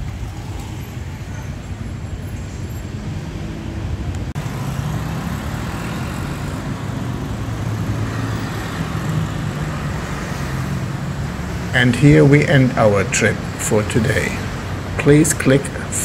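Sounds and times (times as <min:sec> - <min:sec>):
bus passing: 0:00.0 - 0:16.0
cars passing: 0:00.0 - 0:16.0
motorcycles passing: 0:00.0 - 0:16.0.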